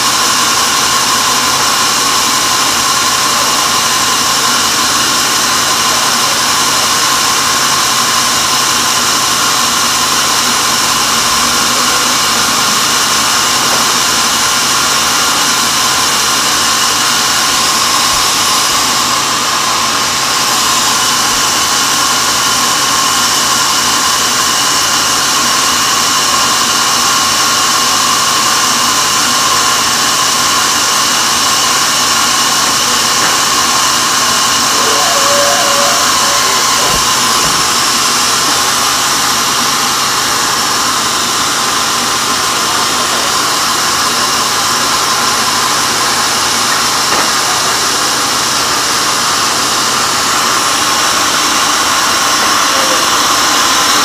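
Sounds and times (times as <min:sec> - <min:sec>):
band saw cutting log: 0:00.0 - 0:54.0
high steady whine: 0:00.0 - 0:54.0.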